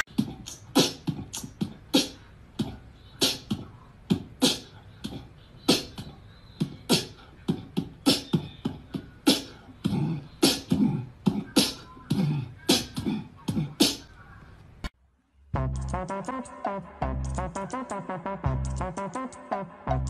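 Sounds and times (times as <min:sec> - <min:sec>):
beatboxing: 0:00.0 - 0:14.2, 0:15.6 - 0:20.0.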